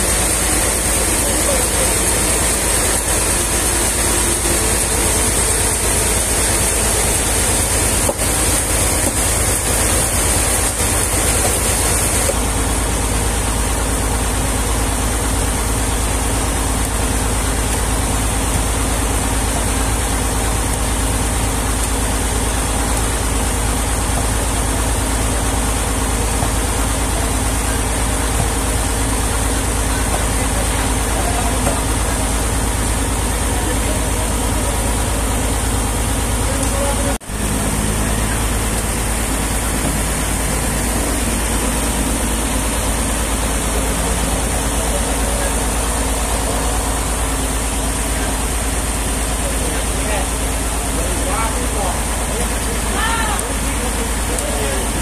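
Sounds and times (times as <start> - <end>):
sawmill machinery hum: 0.0 - 55.0.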